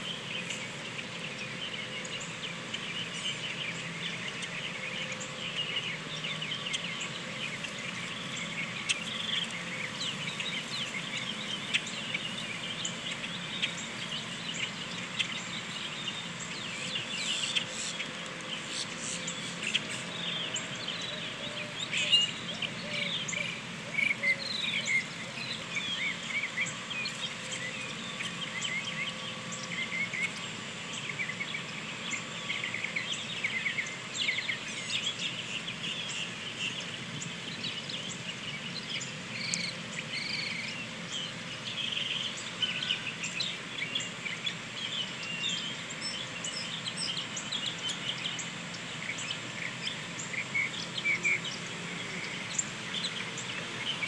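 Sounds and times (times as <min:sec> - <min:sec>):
small birds chirping: 0:00.0 - 0:54.0
steady outdoor hiss: 0:00.0 - 0:54.0.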